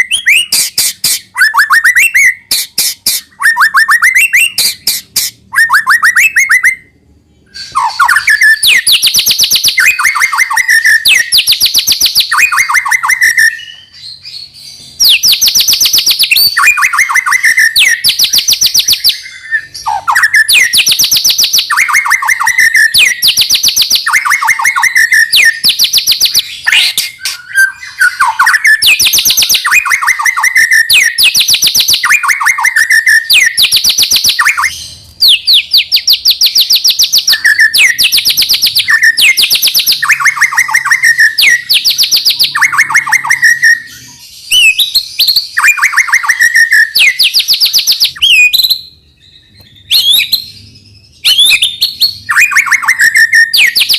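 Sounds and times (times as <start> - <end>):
bird singing rapid trilled phrases: 0.0 - 53.9.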